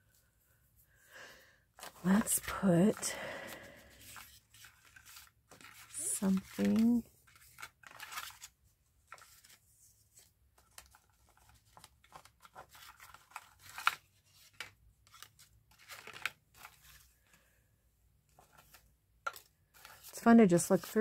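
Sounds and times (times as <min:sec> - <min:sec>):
paper rustling: 0:01.8 - 0:17.4, 0:18.3 - 0:21.0.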